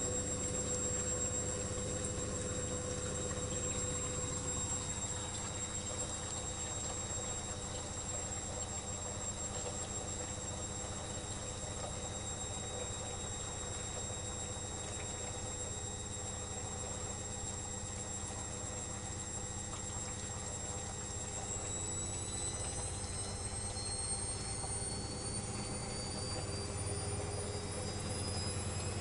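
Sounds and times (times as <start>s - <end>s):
high steady whines: 0.0s - 29.0s
washing machine humming: 0.0s - 29.0s.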